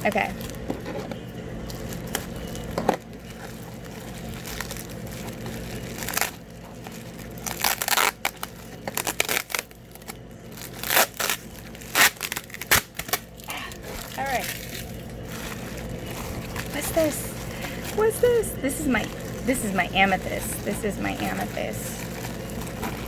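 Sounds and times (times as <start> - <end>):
packing material crinkling and tearing: 0.0 - 23.0.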